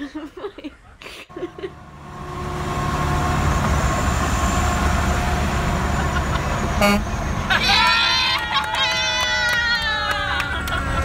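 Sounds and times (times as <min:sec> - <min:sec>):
car road rumble: 0:01.3 - 0:11.0.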